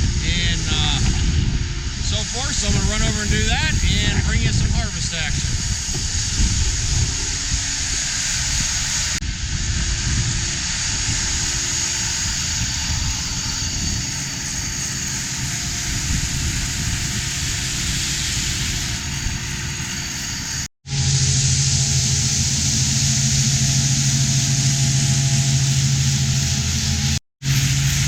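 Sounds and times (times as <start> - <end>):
loud rushing hiss: 0.0 - 28.0.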